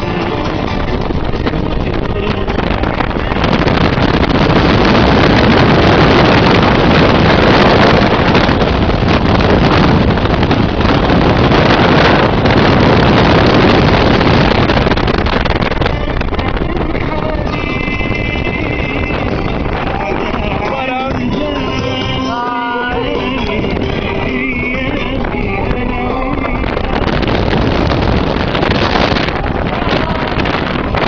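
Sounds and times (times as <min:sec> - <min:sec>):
tyre and road noise: 0:00.0 - 0:31.0
wind buffeting microphone: 0:00.0 - 0:31.0.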